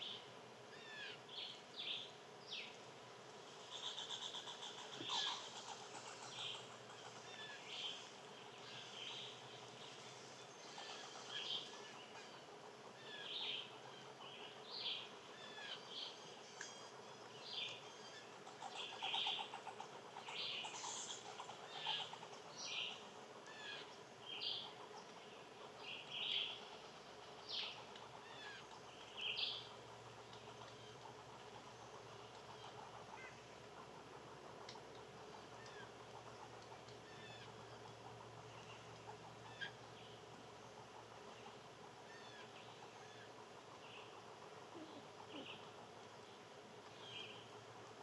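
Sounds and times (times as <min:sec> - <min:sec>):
faint background hum: 0:00.0 - 0:48.0
small birds chirping: 0:00.0 - 0:48.0.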